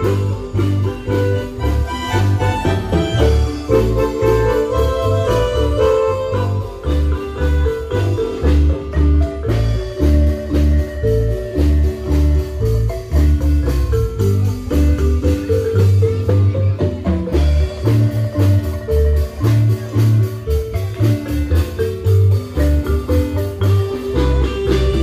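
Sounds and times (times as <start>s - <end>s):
deep bass notes: 0.0s - 25.0s
marimba band playing: 0.0s - 25.0s.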